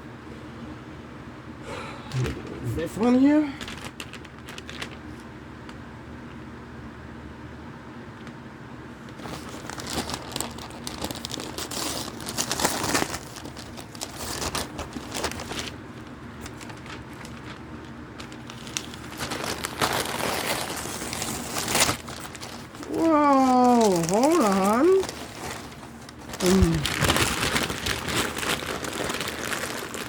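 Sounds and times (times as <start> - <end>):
packaging crinkling and tearing: 2.3 - 5.8, 9.0 - 30.0.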